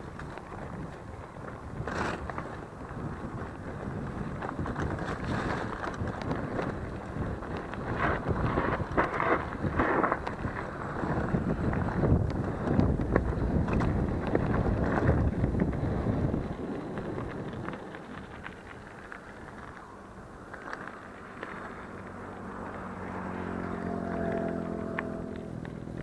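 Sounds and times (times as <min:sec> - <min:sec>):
mountain bike rattling on dirt trail: 0:00.0 - 0:26.0
tyres rolling on pavement: 0:00.0 - 0:26.0
wind buffeting microphone: 0:00.0 - 0:26.0.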